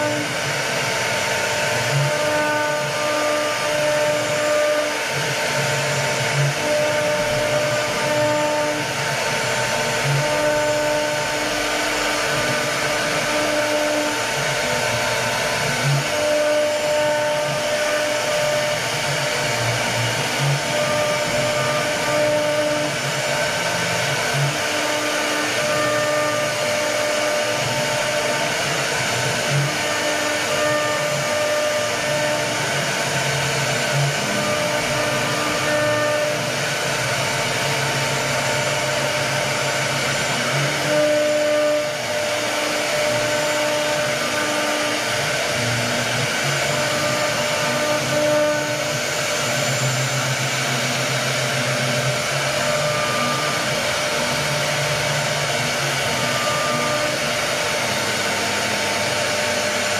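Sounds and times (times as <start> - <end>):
router spindle whining: 0.0 - 59.9.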